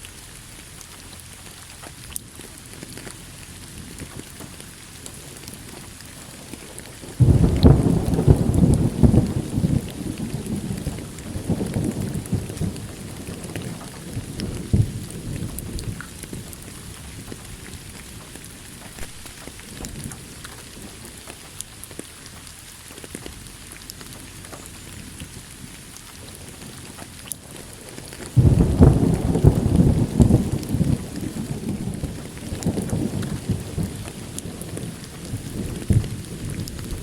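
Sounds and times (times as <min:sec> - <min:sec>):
steady rain: 0:00.0 - 0:37.0
thunder crack and rumble: 0:02.1 - 0:22.1, 0:22.9 - 0:37.0.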